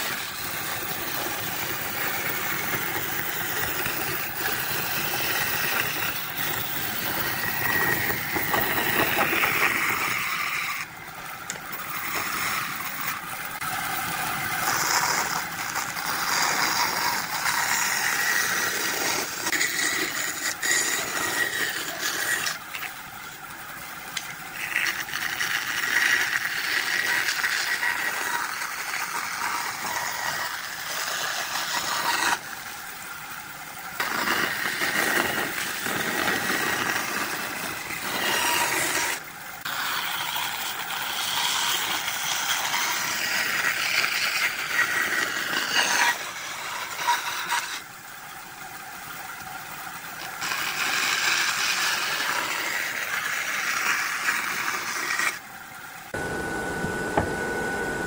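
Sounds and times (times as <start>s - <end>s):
bandsaw cutting wood: 0.0s - 22.8s, 24.2s - 32.5s, 34.0s - 47.9s, 50.2s - 55.4s, 56.1s - 58.0s.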